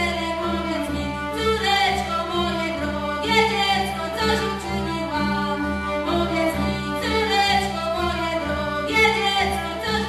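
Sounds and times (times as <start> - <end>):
fiddle melody: 0.0 - 10.0
folk string band: 0.0 - 10.0.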